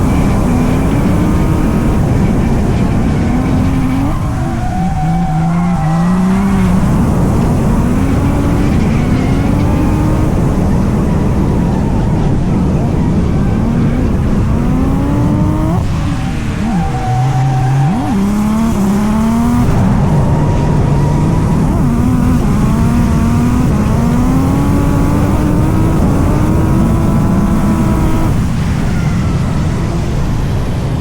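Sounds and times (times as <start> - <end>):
tyre noise: 0.0 - 30.7
car engine revving hard: 0.0 - 31.0.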